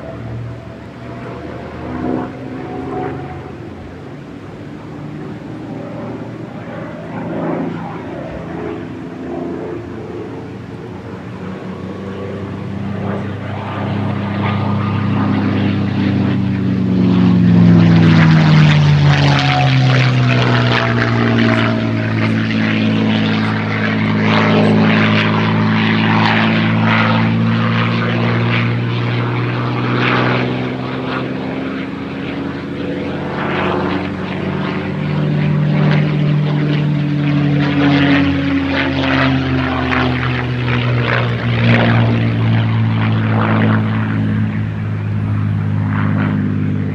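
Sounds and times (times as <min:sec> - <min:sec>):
propeller plane flyby: 0:00.0 - 0:46.9.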